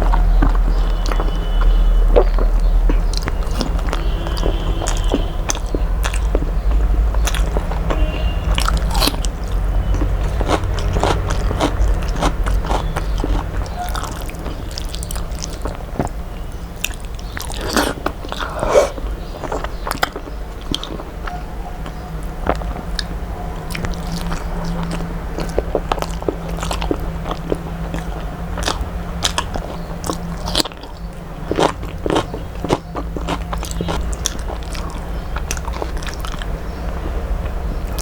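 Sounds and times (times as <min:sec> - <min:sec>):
crunching and chewing: 0:00.0 - 0:38.0.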